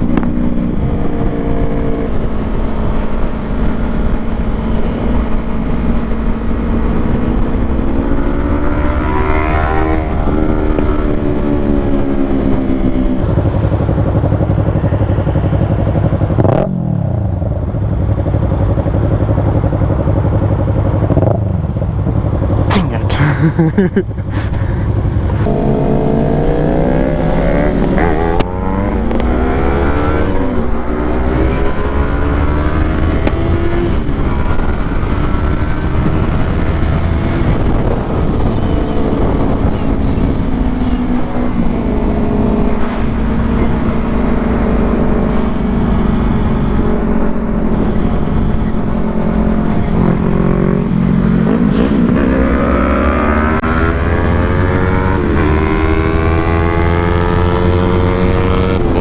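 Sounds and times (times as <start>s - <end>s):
wind rumble on microphone: 0.0s - 22.7s, 23.9s - 59.0s
motorcycle engine accelerating: 0.0s - 59.0s.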